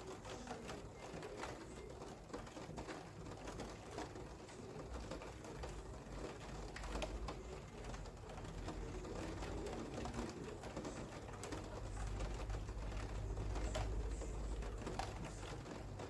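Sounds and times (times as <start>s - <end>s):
rain dripping: 0.1s - 16.0s.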